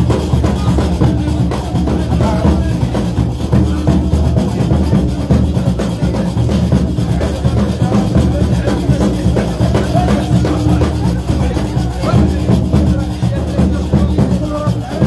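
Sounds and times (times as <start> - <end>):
loud music with drums: 0.0 - 15.0.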